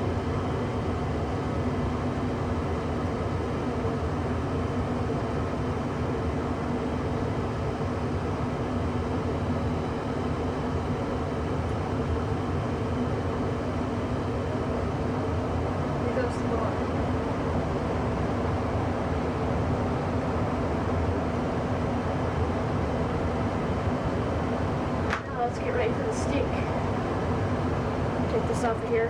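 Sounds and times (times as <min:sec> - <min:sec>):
gas furnace rushing with hum: 0:00.0 - 0:29.0.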